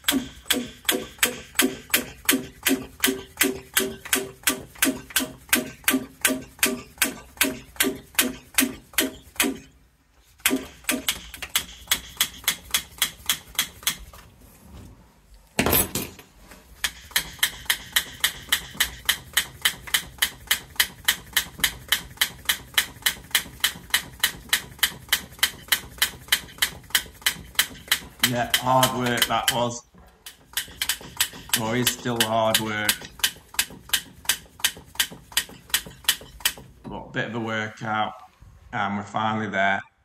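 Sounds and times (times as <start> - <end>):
hand pump squeaky puffs: 0.0 - 9.8, 10.4 - 14.2, 16.7 - 36.8.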